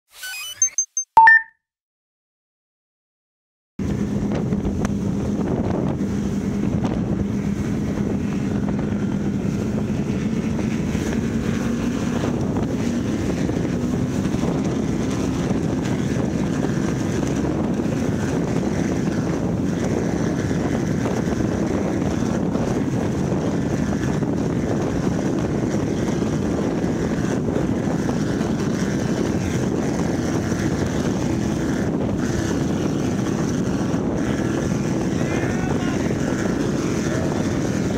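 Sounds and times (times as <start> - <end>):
powerboat engines running hard: 3.8 - 37.9
wind buffeting microphone: 3.8 - 37.9.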